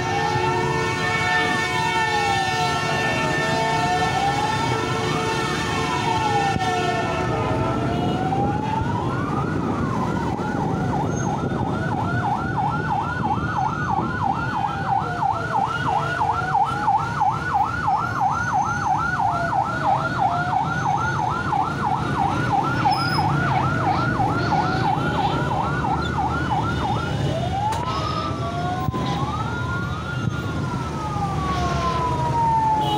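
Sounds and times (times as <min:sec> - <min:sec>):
siren wailing: 0:00.0 - 0:32.9
street traffic noise: 0:00.0 - 0:32.9
siren yelping: 0:05.9 - 0:32.9.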